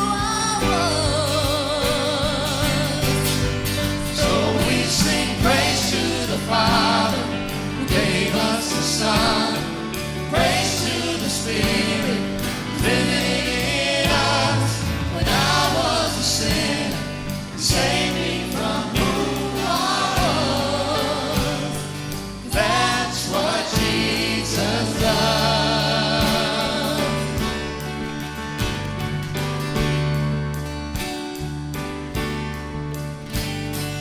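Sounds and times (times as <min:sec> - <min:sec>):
vocal group singing: 0:00.0 - 0:28.2
instrumental accompaniment: 0:00.0 - 0:34.0.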